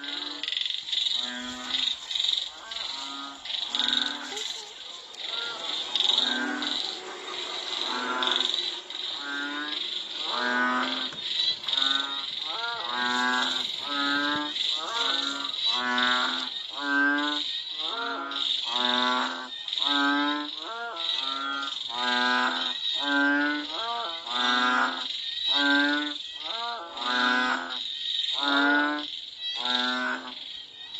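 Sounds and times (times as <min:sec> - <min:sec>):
frogs low calls: 0:00.0 - 0:30.9
high-pitched frog chorus: 0:00.0 - 0:30.9.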